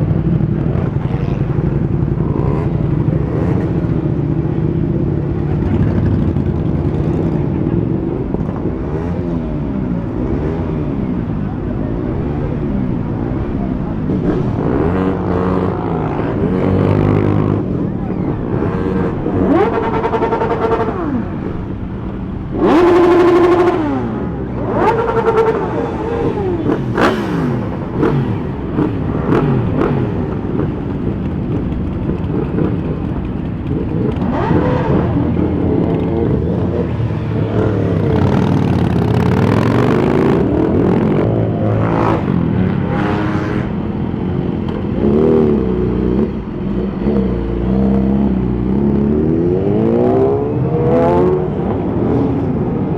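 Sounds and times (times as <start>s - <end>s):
motorcycle engines revving: 0.0s - 52.9s.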